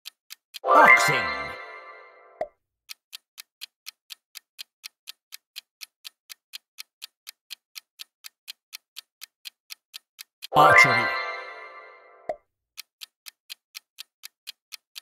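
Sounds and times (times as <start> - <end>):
timer clock ticking: 0.0 - 15.0.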